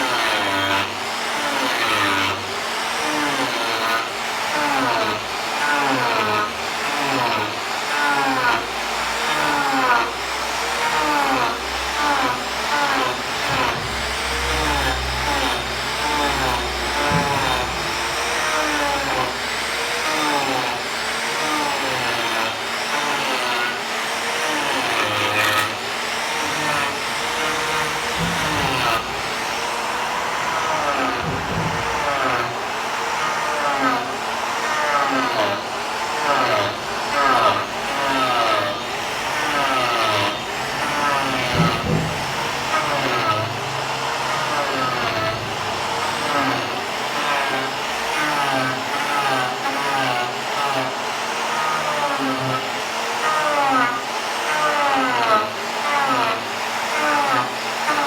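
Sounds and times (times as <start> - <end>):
power tool working wood: 0.0 - 58.0.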